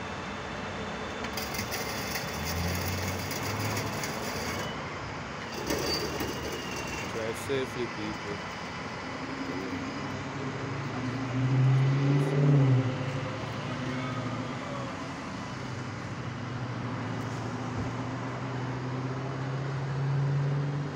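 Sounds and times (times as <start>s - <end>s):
road traffic: 0.0s - 20.9s
vehicle engine hum: 0.0s - 20.9s.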